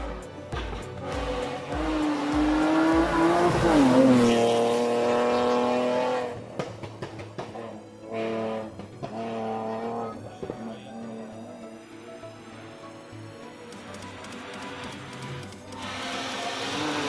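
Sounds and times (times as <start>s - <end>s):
rally car engine at full throttle: 0.0s - 11.8s, 13.8s - 17.0s.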